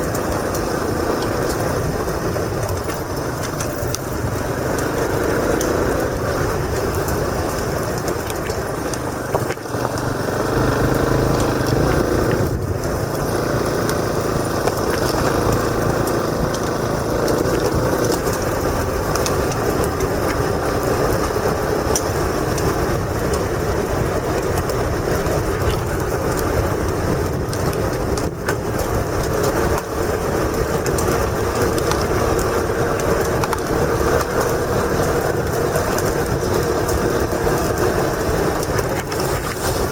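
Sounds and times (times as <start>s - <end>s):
heavy wind noise: 0.0s - 39.9s
motorcycle engine running: 0.0s - 39.9s
road noise: 0.0s - 39.9s.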